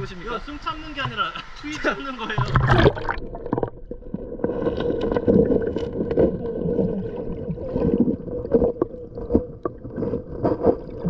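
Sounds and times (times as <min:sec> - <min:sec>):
stream water gurgling: 0:00.0 - 0:11.0.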